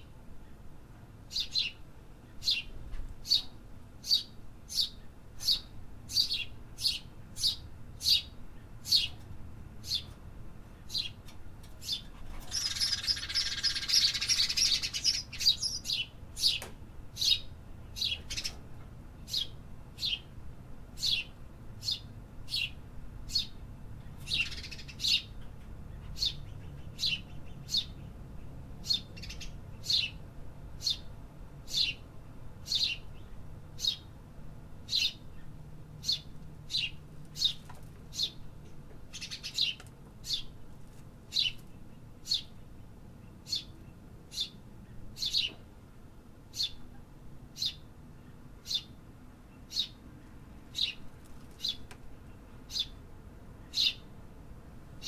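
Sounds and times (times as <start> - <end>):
bird chirping: 1.3 - 9.2, 9.8 - 18.6, 19.2 - 20.3, 21.0 - 30.2, 30.8 - 34.1, 34.8 - 40.6, 41.3 - 45.6, 46.5 - 46.9, 47.5 - 50.0, 50.7 - 53.0, 53.6 - 54.1.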